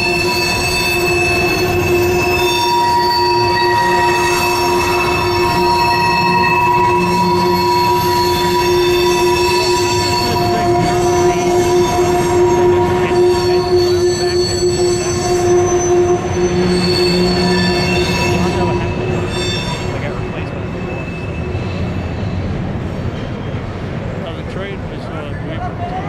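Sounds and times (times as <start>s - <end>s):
wheels squealing: 0.0s - 24.4s
freight cars rumbling: 0.0s - 26.0s.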